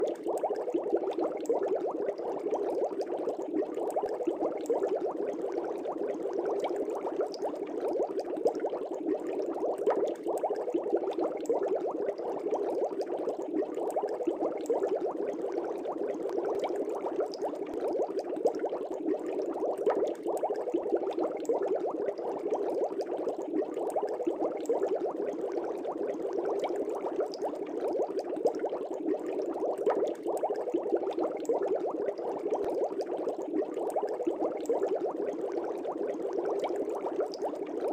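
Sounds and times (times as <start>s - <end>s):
water bubbling in fish tank: 0.0s - 37.9s.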